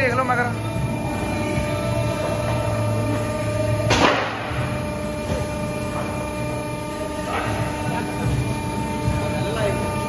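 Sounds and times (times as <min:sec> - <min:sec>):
workshop machinery humming: 0:00.0 - 0:10.0.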